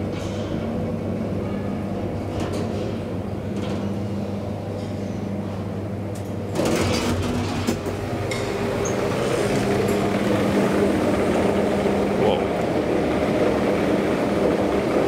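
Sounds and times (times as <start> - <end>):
elevator low hum: 0.0 - 15.0.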